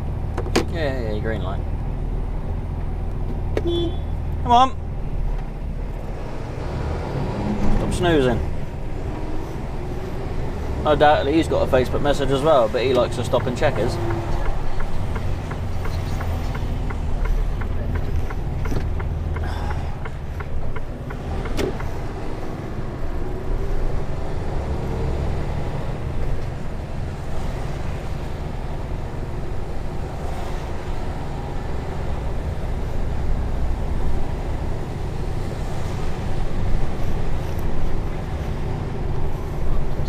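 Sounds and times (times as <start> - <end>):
lorry engine low rumble: 0.0 - 40.0.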